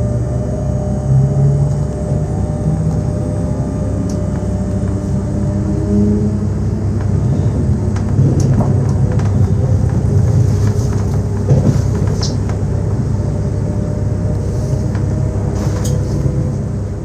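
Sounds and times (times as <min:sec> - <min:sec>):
electric train rumbling: 0:00.0 - 0:17.0
motor hum: 0:00.0 - 0:17.0.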